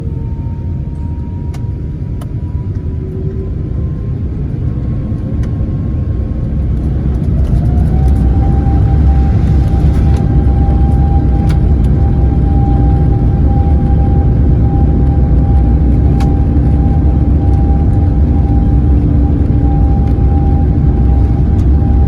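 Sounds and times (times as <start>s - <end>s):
jet engine whine rising: 0.0s - 22.0s
jet engines rumbling: 0.0s - 22.0s.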